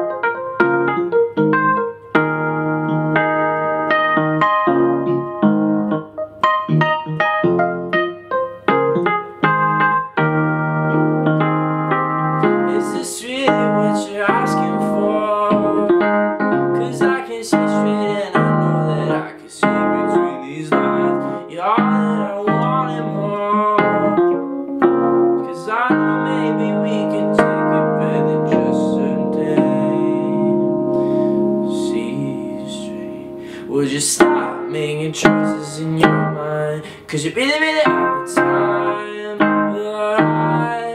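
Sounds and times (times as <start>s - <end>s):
piano keyboard chords: 0.0s - 40.9s.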